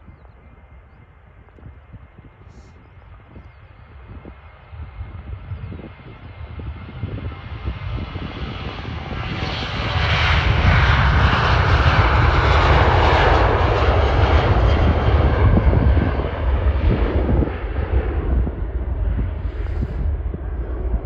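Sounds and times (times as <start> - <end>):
jet engine roar at takeoff: 0.0 - 21.0.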